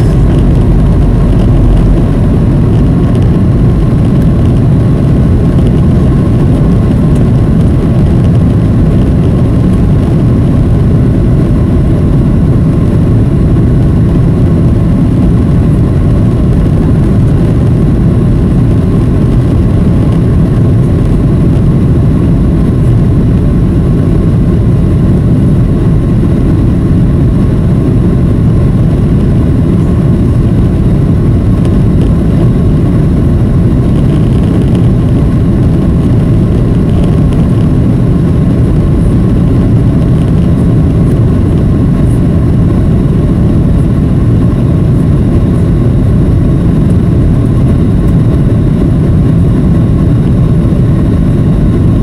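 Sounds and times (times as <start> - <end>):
faint steady hum: 0.0 - 52.0
jet engine and airflow rumble: 0.0 - 52.0.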